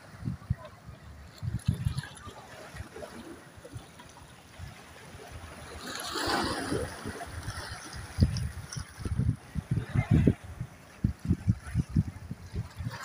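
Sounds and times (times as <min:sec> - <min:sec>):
waves lapping against rocks: 0:00.0 - 0:13.0.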